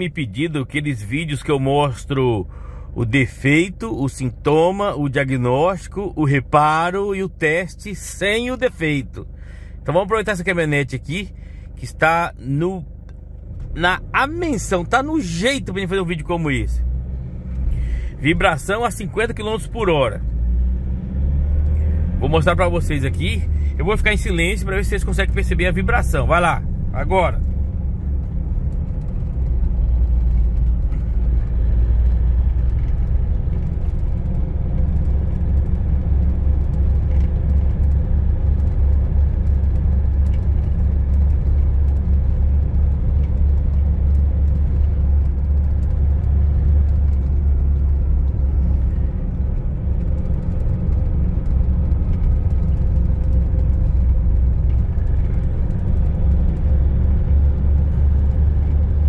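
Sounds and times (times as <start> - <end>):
road and drivetrain rumble: 0.0 - 59.0.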